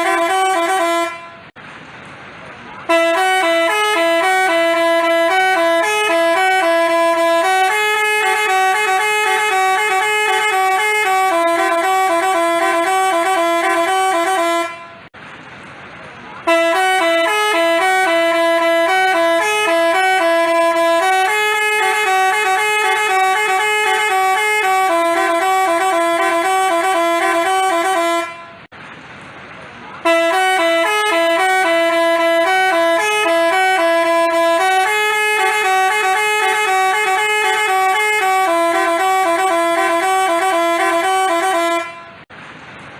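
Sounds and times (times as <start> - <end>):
multi-tone horn melody: 0.0 - 1.6, 2.8 - 15.1, 16.4 - 28.7, 30.0 - 42.3.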